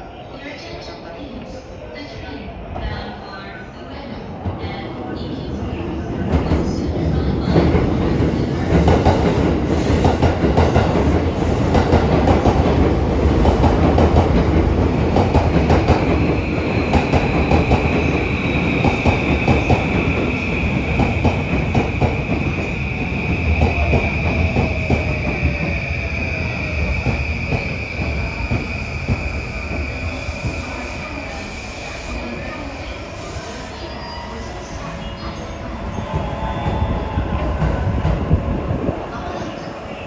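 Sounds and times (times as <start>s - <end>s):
heavy train rumble: 2.6s - 40.0s.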